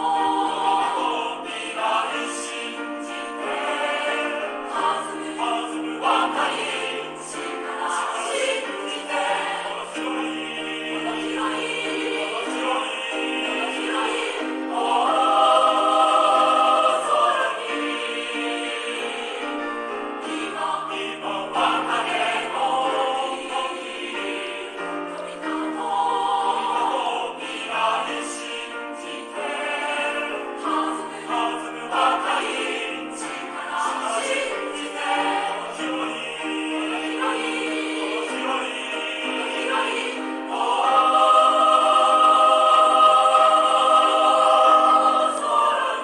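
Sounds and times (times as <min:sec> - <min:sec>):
choir-like singing: 0:00.0 - 0:46.0.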